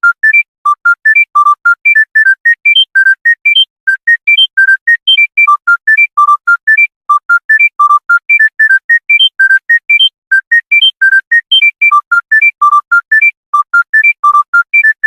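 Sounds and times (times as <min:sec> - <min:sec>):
mobile phone ringtone melody: 0:00.0 - 0:15.0.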